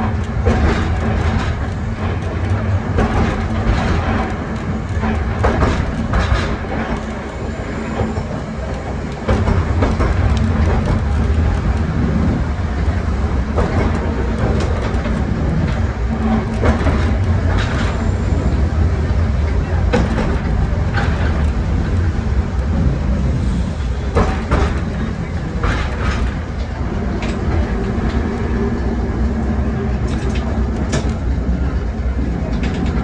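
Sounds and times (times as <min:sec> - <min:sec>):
tram rumbling: 0:00.0 - 0:33.0
wheels clacking on rails: 0:00.0 - 0:33.0.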